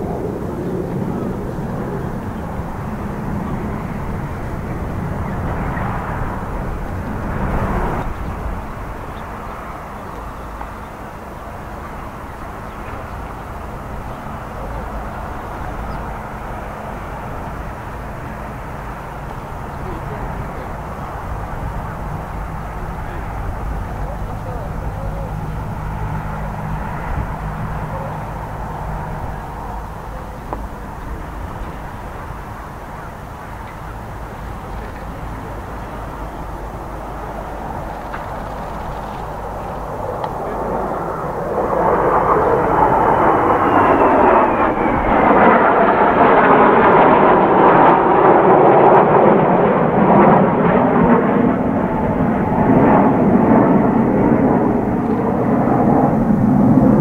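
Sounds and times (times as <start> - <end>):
distant jet engine rushing: 0.0 - 57.0.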